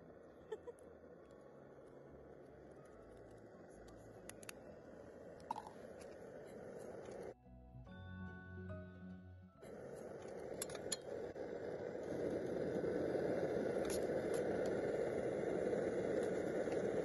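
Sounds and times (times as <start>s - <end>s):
camping stove burning: 0.0s - 7.4s, 8.7s - 17.0s.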